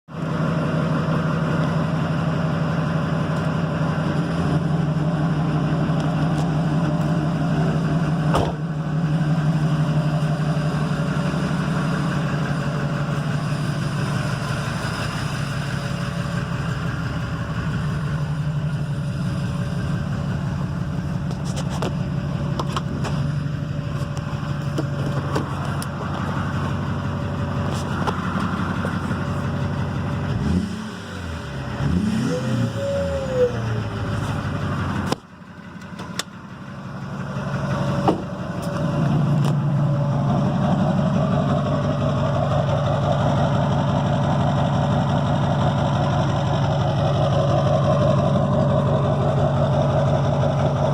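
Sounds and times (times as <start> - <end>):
diesel engine idling: 0.1 - 50.9.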